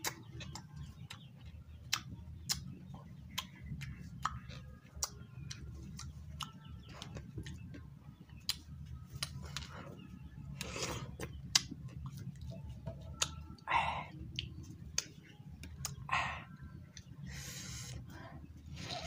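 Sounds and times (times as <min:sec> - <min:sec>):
chewing watermelon: 0:00.0 - 0:19.0.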